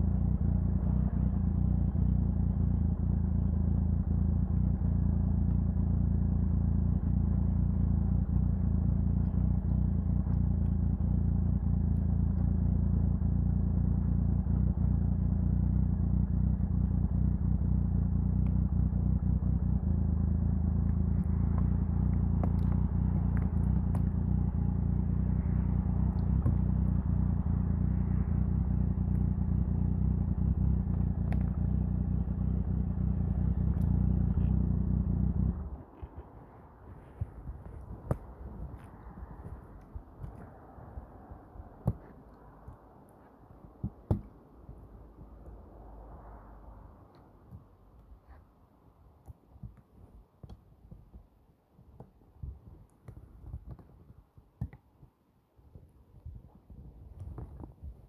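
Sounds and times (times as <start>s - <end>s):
motorcycle engine running: 0.0s - 47.5s.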